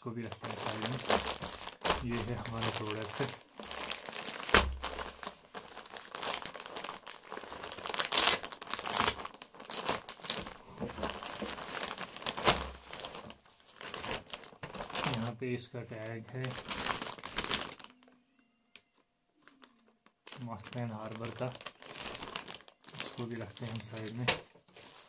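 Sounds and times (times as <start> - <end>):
plastic bag crinkling and rustling: 0.0 - 18.2, 18.8 - 25.0.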